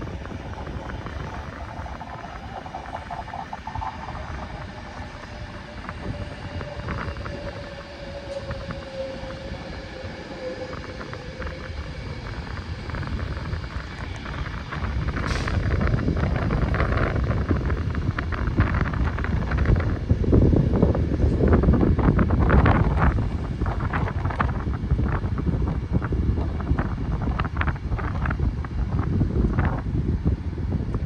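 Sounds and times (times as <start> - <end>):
electric train whine: 0.0 - 31.0
low rumble: 0.0 - 31.0.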